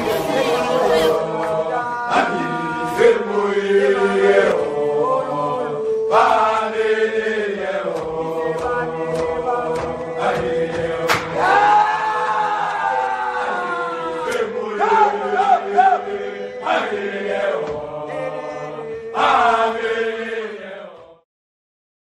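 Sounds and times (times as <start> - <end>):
voices chanting long notes: 0.0 - 21.2.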